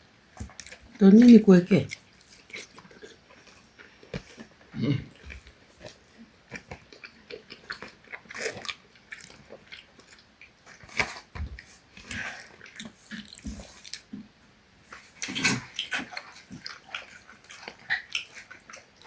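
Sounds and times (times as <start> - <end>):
people chewing and biting: 0.3 - 19.0.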